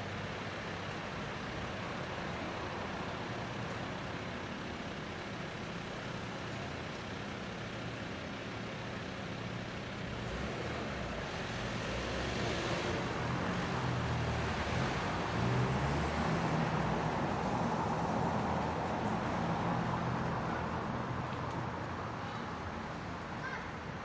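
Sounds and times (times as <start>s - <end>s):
passing cars: 0.0s - 24.0s.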